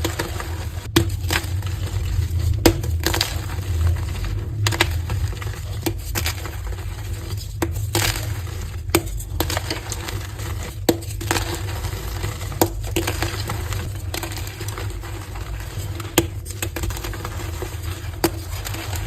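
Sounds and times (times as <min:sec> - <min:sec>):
chalk crushing and crackling: 0:00.0 - 0:19.0
steady low hum: 0:00.0 - 0:19.0.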